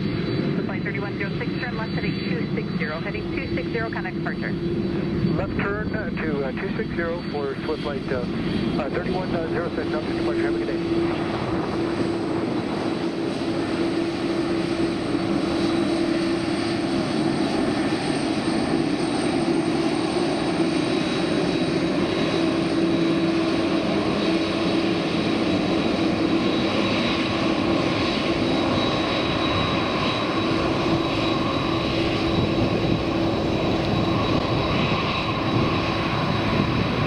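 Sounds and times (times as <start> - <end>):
jet engines droning: 0.0 - 37.0.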